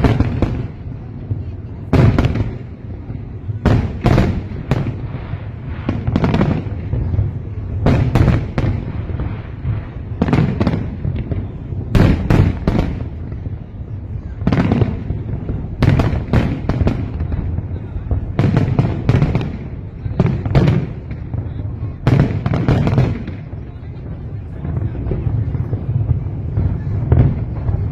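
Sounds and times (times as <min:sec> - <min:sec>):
low rumble and echo: 0:00.0 - 0:27.9.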